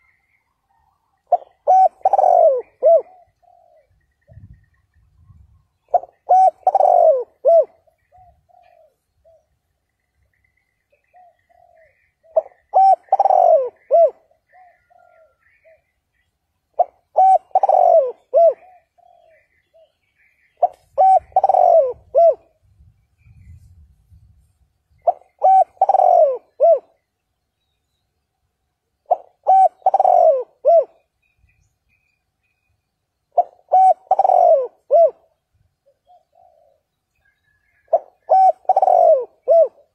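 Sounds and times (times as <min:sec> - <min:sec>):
dove cooing: 0:00.0 - 0:09.5, 0:11.0 - 0:22.6, 0:25.0 - 0:27.0, 0:29.0 - 0:31.3, 0:33.3 - 0:39.9.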